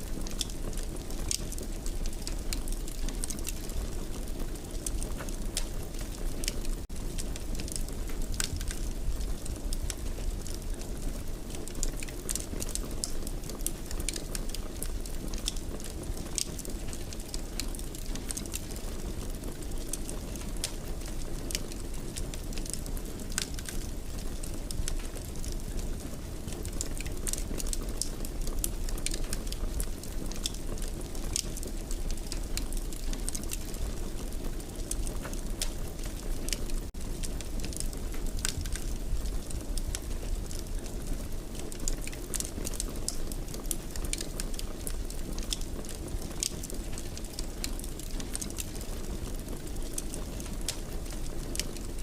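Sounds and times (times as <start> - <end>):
low rumble of burning: 0.0 - 52.0
wood fire crackling and popping: 0.0 - 52.0.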